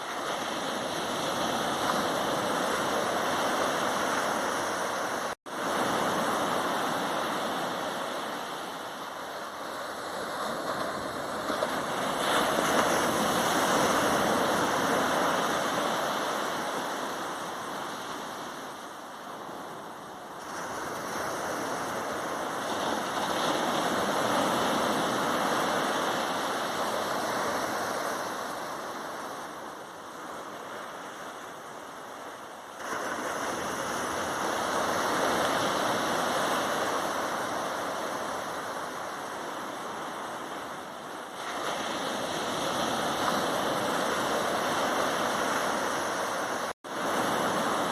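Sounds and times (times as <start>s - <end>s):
sea waves breaking on beach: 0.0s - 47.9s.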